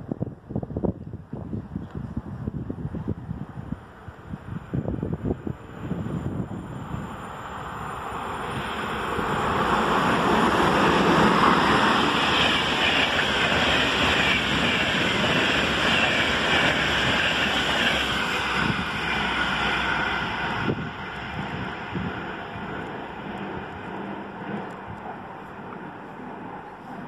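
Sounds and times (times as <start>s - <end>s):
train wheels rushing on rails: 4.0s - 27.0s.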